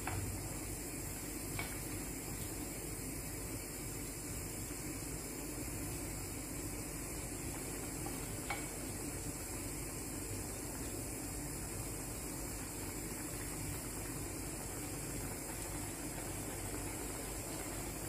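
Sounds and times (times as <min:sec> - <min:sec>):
sauce simmering in a pan: 0:00.0 - 0:18.0.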